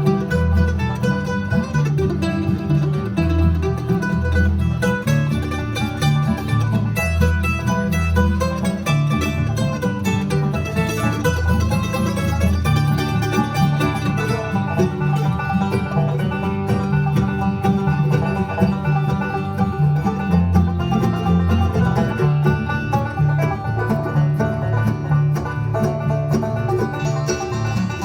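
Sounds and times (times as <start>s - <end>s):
plucked strings: 0.0s - 28.0s
steady bass: 0.0s - 28.0s.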